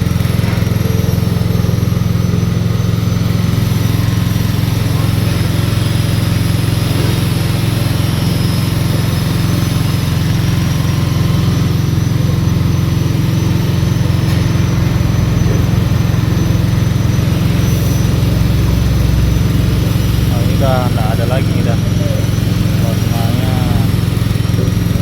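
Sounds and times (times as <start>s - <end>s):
press machine engine drone: 0.0s - 25.0s.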